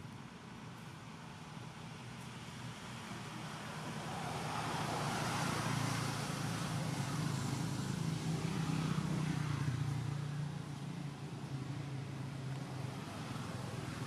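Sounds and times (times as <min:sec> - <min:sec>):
noisy wash: 0:00.0 - 0:14.0
vehicle engine humming: 0:00.0 - 0:14.0.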